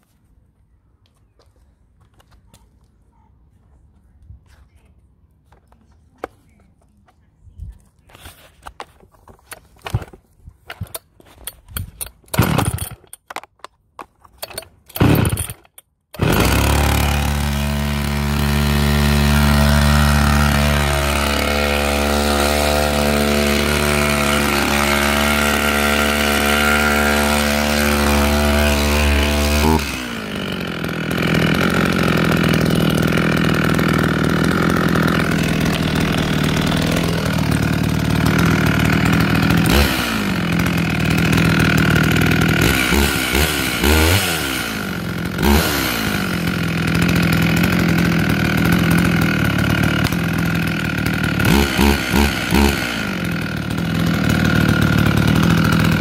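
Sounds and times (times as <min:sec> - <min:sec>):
chainsaw pull-starting and running: 0:08.1 - 0:56.0.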